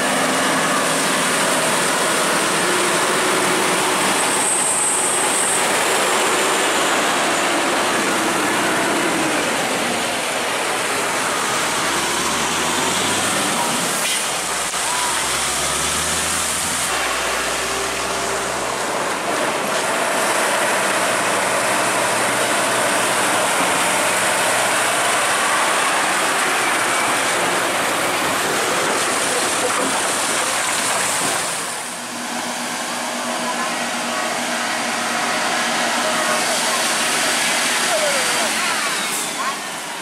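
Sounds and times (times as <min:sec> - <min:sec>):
diesel truck engines: 0:00.0 - 0:40.0
rushing road noise: 0:00.0 - 0:40.0.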